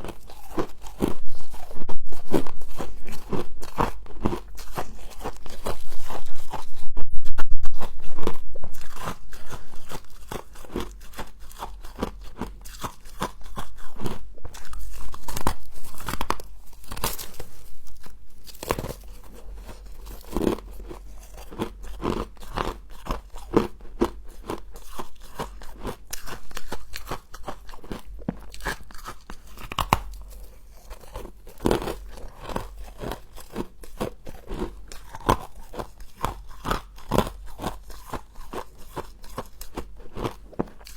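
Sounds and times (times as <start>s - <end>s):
crunching and chewing frost: 0.0s - 40.9s.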